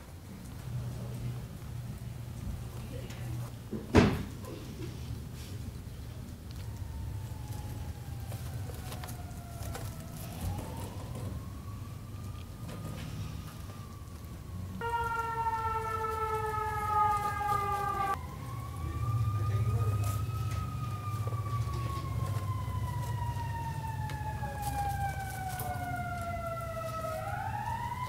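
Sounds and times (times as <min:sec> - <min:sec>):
emergency siren wailing: 0:05.0 - 0:28.0.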